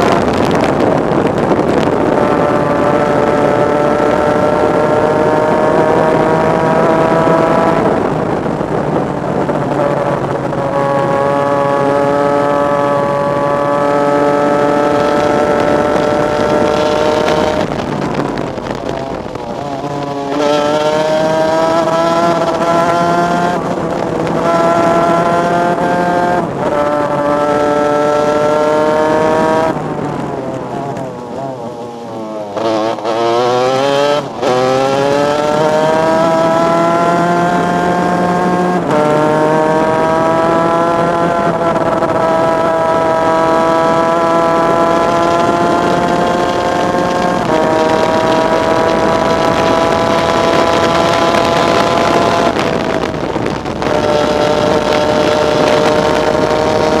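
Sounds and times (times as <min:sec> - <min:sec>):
racing kart engine accelerating: 0:00.0 - 0:57.0.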